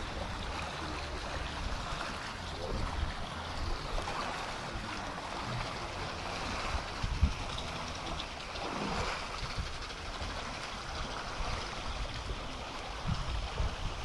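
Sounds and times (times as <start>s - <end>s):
moving water: 0.0s - 14.0s
wind: 0.0s - 14.0s
wind rumbling on microphone: 0.0s - 14.0s.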